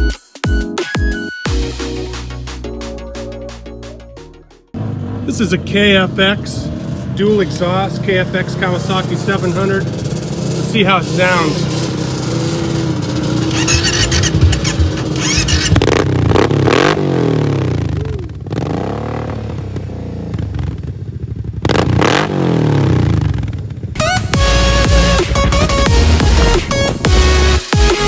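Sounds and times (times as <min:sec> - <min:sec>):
atv engine idling and revving: 0:01.5 - 0:28.0.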